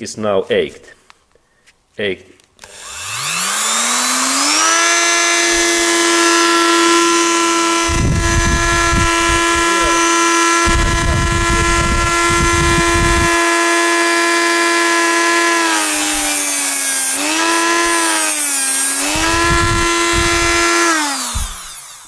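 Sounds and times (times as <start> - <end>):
grinding hiss cutting cable: 2.6 - 22.0
rotary tool whining: 2.6 - 22.0.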